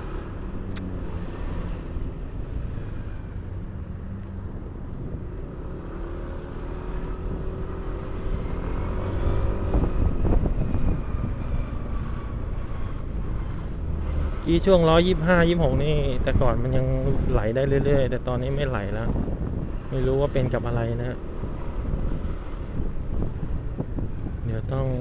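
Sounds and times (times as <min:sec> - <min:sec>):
traffic: 0:00.0 - 0:25.0.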